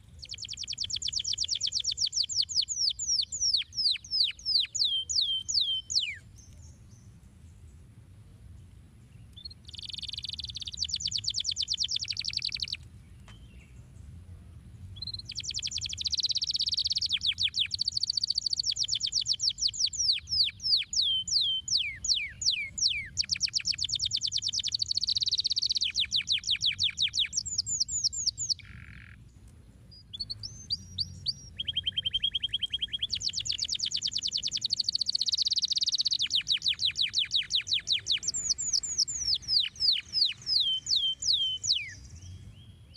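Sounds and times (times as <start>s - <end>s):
canary singing trills: 0.0s - 7.2s, 9.2s - 13.8s, 15.0s - 29.3s, 29.9s - 42.9s.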